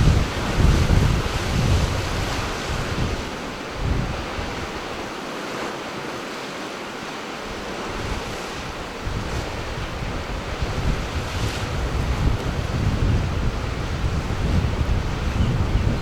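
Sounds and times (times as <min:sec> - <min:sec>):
wind buffeting microphone: 0:00.0 - 0:05.1, 0:07.5 - 0:16.0
ocean surf washing: 0:00.0 - 0:16.0.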